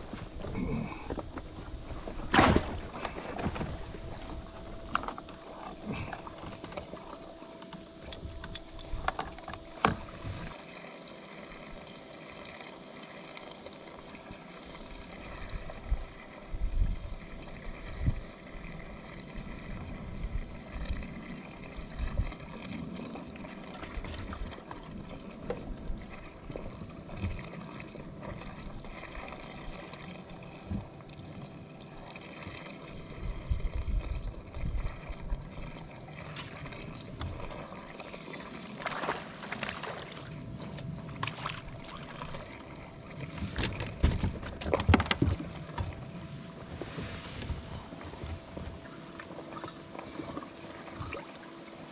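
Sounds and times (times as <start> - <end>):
water trickling and splashing: 0.0 - 51.9.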